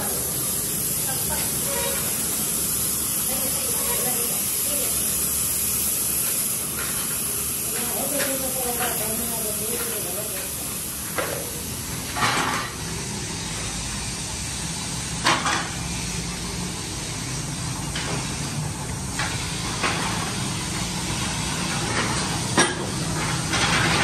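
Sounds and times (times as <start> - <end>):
workshop machinery hum: 0.0 - 24.0.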